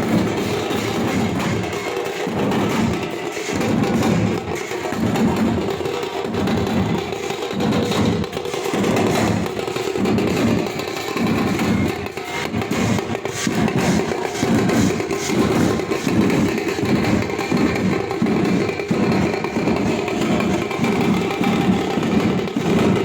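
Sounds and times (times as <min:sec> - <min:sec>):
drum-led percussion music: 0:00.0 - 0:23.0.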